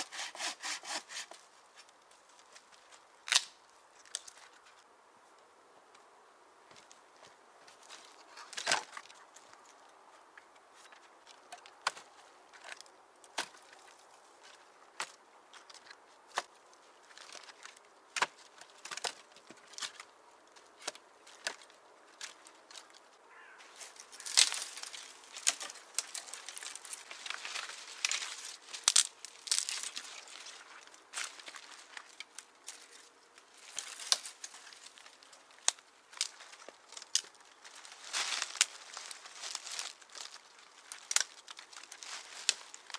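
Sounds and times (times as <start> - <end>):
rustling and scraping: 6.7 - 42.9.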